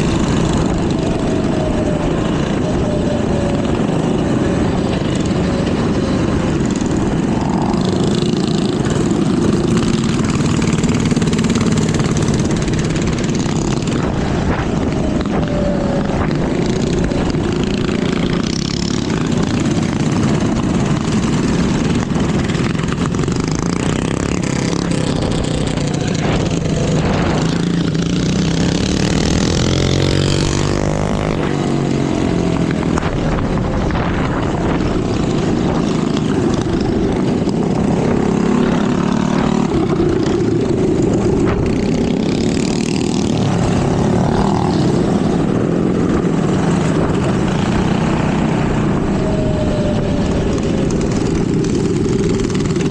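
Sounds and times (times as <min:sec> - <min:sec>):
minibike engines running: 0:00.0 - 0:52.9.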